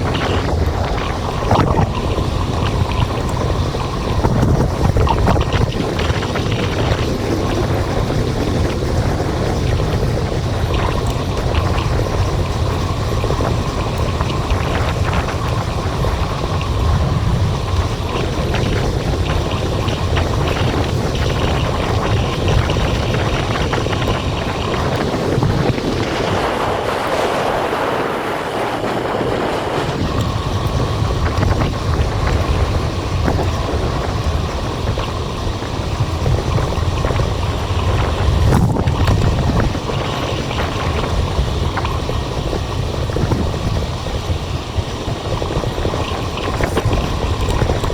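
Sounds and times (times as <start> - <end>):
road and tyre noise: 0.0 - 47.9
wind buffeting microphone: 0.0 - 47.9.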